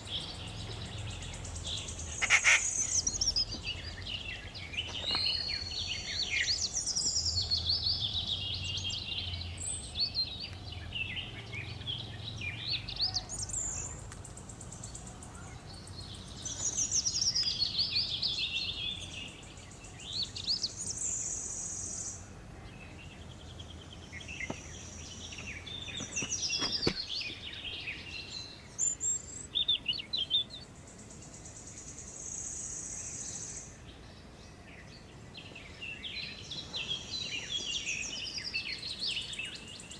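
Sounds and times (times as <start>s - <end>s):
wild birds chirping and calling: 0.0s - 39.9s.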